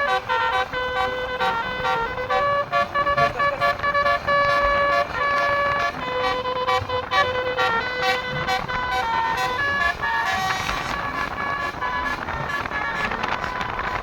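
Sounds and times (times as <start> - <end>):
musical bus horn tune: 0.0 - 14.0.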